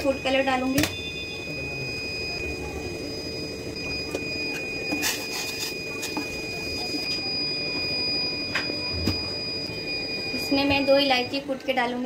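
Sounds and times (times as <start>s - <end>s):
faint high tone: 0.0s - 11.5s.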